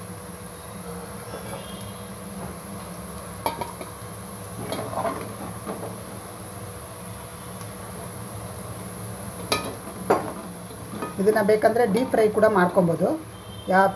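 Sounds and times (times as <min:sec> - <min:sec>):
potatoes sizzling in oil: 0:00.0 - 0:13.9.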